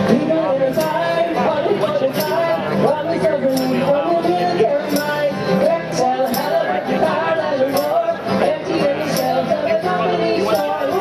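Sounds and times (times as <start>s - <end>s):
acoustic guitar strumming: 0.0s - 11.0s
person singing: 0.0s - 11.0s.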